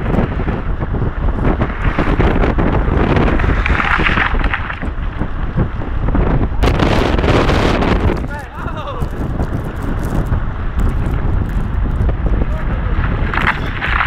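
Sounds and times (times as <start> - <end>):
car rumble: 0.0 - 14.0
wind buffeting microphone: 0.0 - 14.0.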